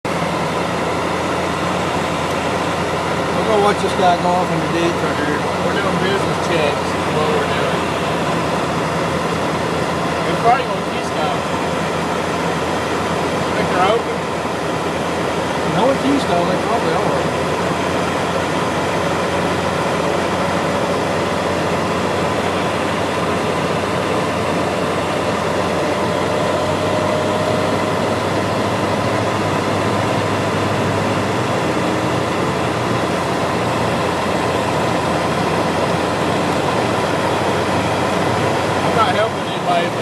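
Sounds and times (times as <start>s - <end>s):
road and engine noise in cabin: 0.0s - 40.0s.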